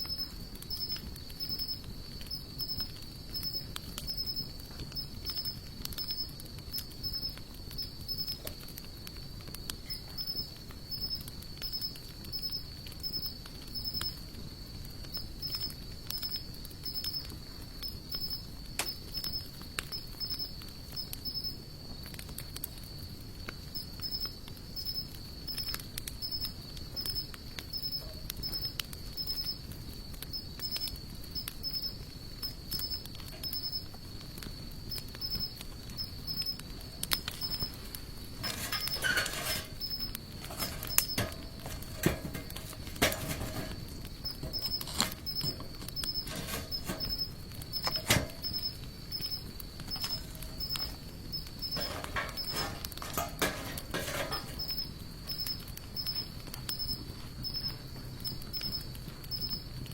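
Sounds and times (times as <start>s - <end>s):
insect trill: 0.0s - 59.9s
wood fire crackling and popping: 0.0s - 59.9s.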